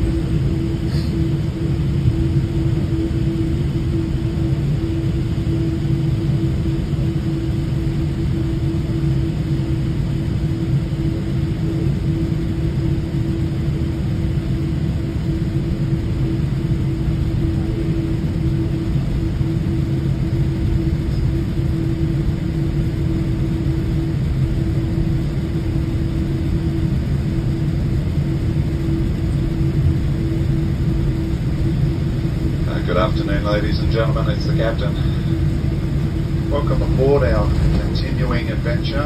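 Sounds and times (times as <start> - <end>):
cabin hum: 0.0 - 39.0
jet engines rumbling: 0.0 - 39.0.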